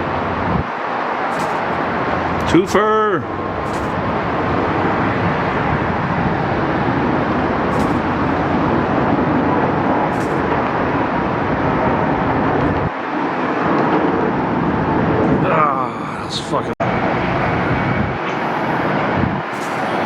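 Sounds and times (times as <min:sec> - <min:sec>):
jet airliner engine noise: 0:00.0 - 0:20.0.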